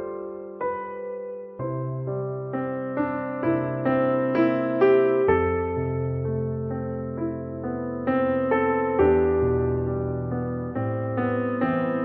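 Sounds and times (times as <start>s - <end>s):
slow piano-like keyboard notes: 0.0s - 12.0s.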